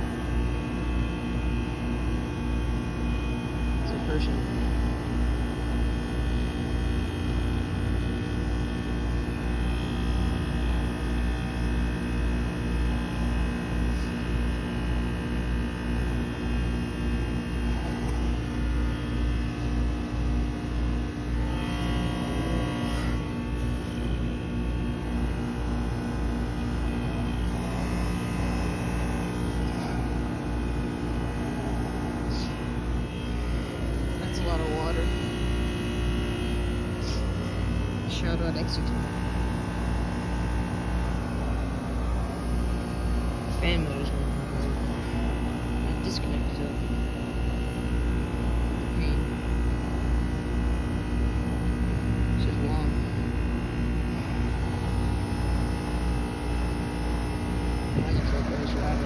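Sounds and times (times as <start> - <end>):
heat pump humming: 0.0 - 59.0.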